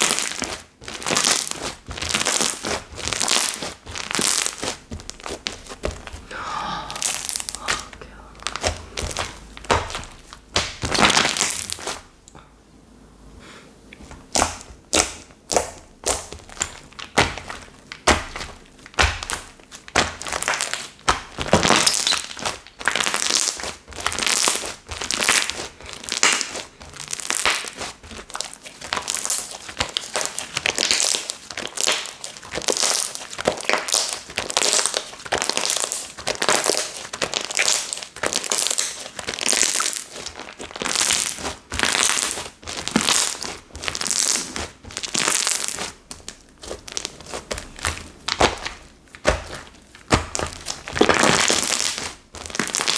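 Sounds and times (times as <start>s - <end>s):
slime crackling and popping: 0.0s - 12.1s, 14.2s - 52.9s.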